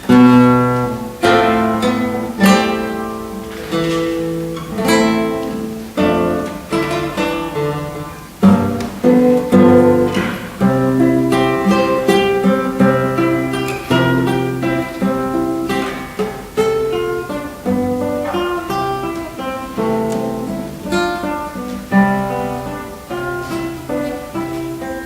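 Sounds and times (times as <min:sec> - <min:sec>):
acoustic guitar strummed chords: 0:00.0 - 0:25.0.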